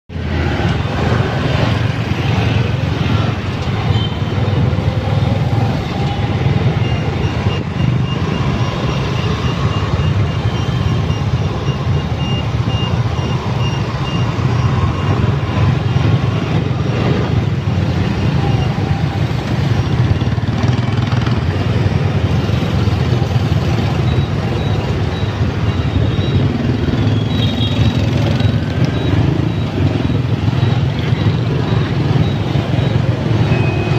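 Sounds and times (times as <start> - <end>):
street traffic rumble: 0.1 - 33.9.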